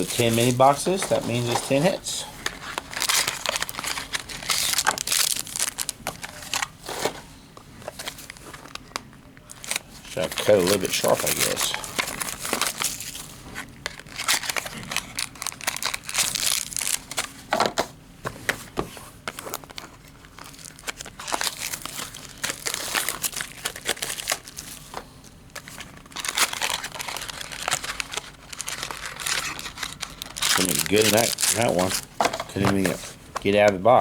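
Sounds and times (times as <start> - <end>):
cardboard crinkling: 0.0 - 7.2, 7.8 - 17.4, 18.6 - 34.0.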